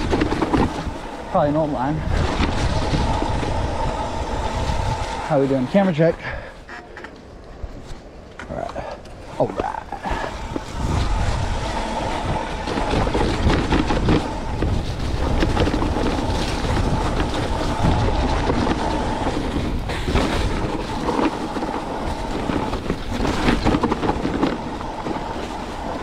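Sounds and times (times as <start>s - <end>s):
wind on microphone: 0.0s - 6.3s, 9.6s - 26.0s
bike tyres rumbling over dirt: 0.0s - 6.5s, 7.7s - 26.0s
bike rattling over bumps: 0.0s - 26.0s.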